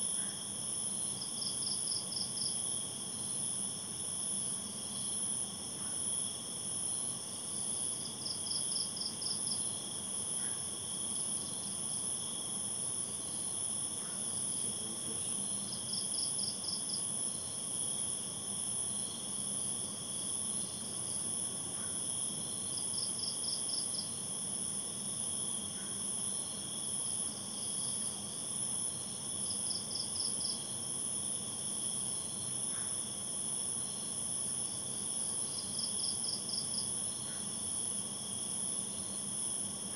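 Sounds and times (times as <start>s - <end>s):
pulsed insect chirp trill: 0.0s - 39.9s.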